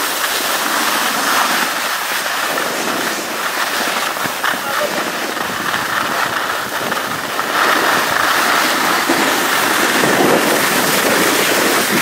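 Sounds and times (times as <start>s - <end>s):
skis sliding over snow: 0.0s - 12.0s
wind rushing across microphone: 0.0s - 12.0s.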